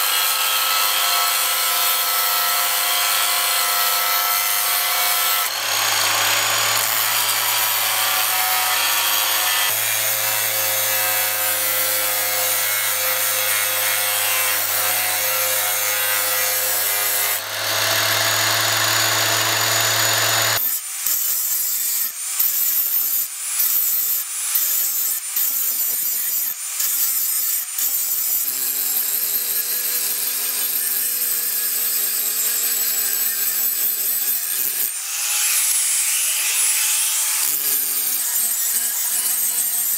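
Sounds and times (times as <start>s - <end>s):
angle grinder grinding metal: 0.0s - 39.9s
cut-off saw grinding steel: 0.0s - 39.9s.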